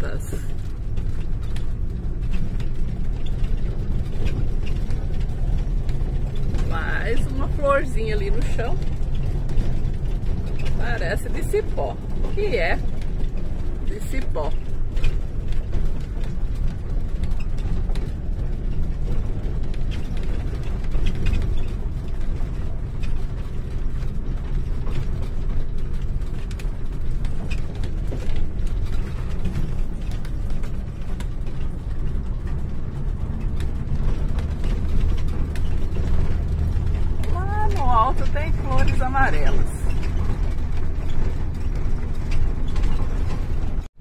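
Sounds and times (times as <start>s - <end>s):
vehicle engine and tyres rumbling: 0.0s - 44.0s.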